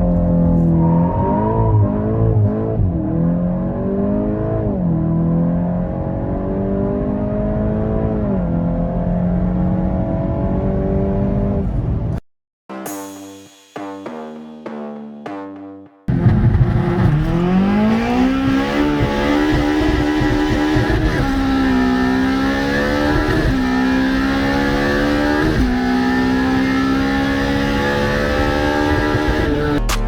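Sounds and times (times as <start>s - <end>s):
car engine accelerating hard: 0.0s - 12.1s, 16.1s - 29.9s.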